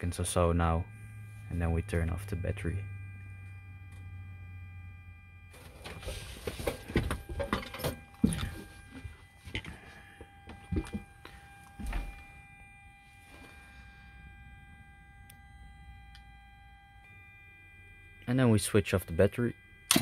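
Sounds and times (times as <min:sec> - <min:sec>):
electrical hum: 0:00.0 - 0:20.0
high whining tones: 0:00.0 - 0:20.0.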